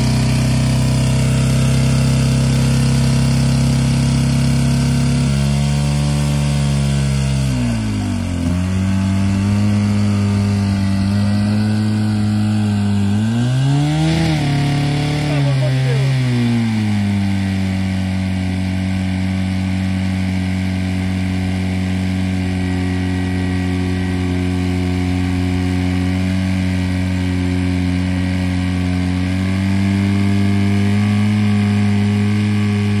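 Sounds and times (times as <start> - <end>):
fire pump engine running: 0.0 - 33.0.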